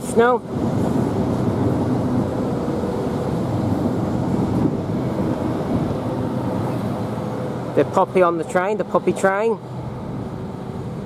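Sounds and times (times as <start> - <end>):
electric train humming: 0.4 - 11.0.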